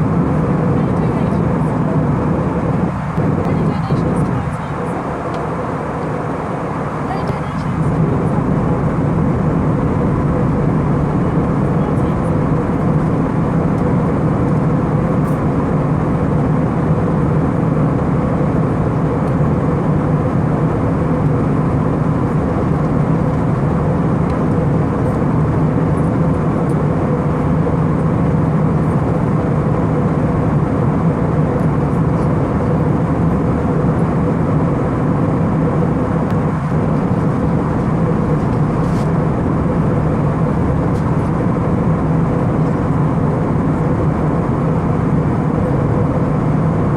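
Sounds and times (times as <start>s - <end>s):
airliner cabin engine hum: 0.0s - 46.9s.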